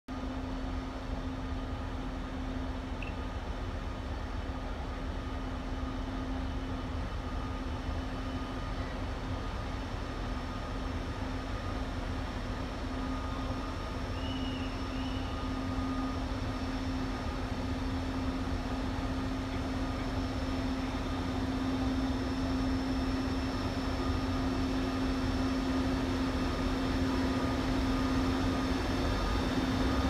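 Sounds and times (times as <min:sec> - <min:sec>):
electric locomotive hum: 0:00.1 - 0:30.0
train rumble: 0:00.1 - 0:30.0.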